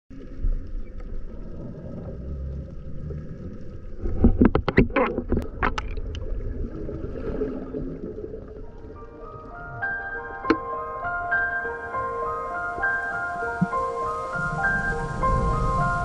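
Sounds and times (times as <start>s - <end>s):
muffled water sloshing: 0.1s - 16.0s.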